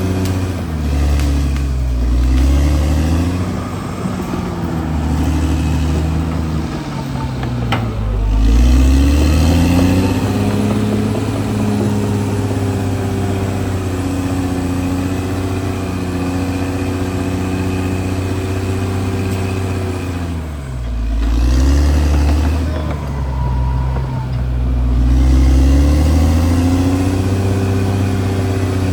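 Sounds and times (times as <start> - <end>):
bulldozer diesel engine under load: 0.0 - 28.9.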